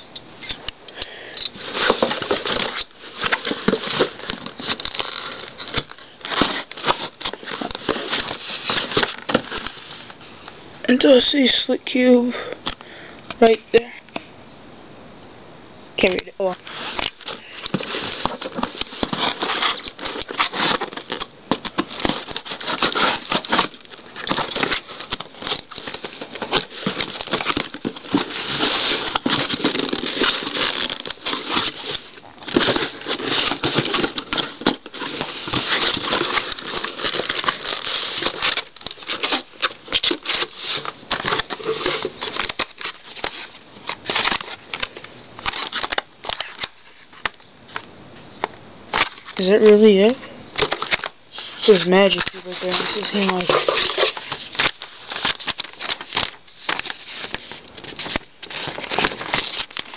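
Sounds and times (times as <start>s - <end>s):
cardboard scraping and rustling: 1.6s - 10.4s, 16.0s - 59.9s.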